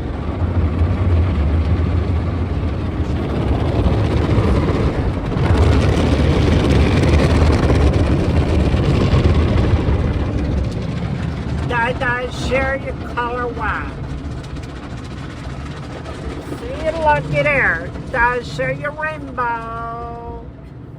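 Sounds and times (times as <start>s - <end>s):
car wash rushing water: 0.0s - 20.2s
low machinery hum: 0.0s - 20.9s.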